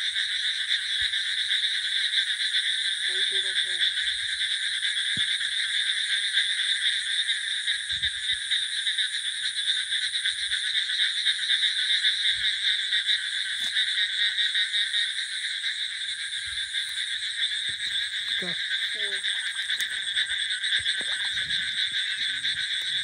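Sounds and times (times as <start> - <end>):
frogs calling: 0.0 - 23.0.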